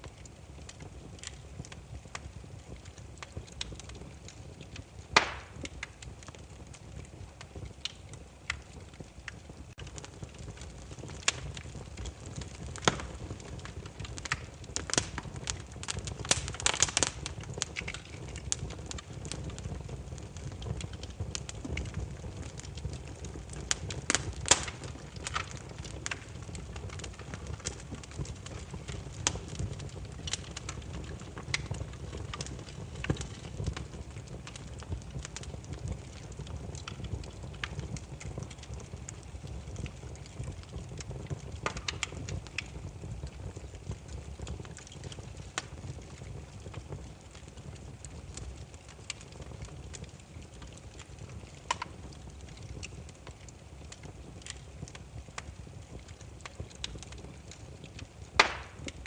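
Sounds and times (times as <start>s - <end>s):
campfire crackling and popping: 0.0s - 59.0s
low rumble of flame: 0.0s - 59.0s.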